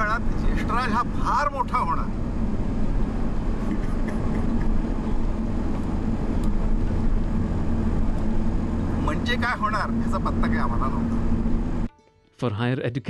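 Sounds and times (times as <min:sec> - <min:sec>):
engine and road rumble in cabin: 0:00.0 - 0:11.9.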